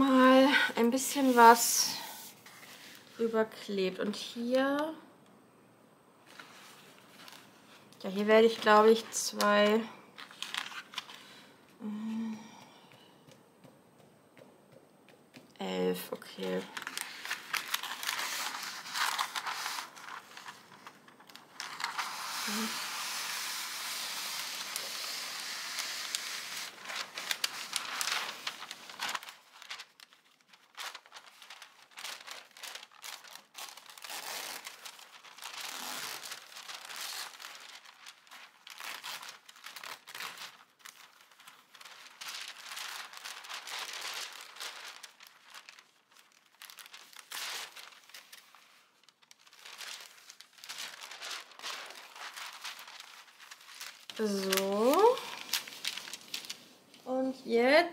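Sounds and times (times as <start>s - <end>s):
paper rustling and crinkling: 0.0s - 4.2s, 6.2s - 14.1s, 14.7s - 57.4s.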